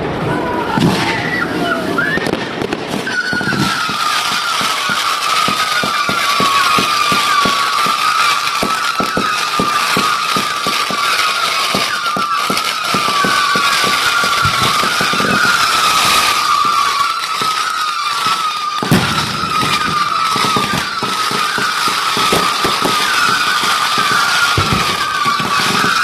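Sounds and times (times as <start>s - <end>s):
firework whistling: 0.0s - 26.0s.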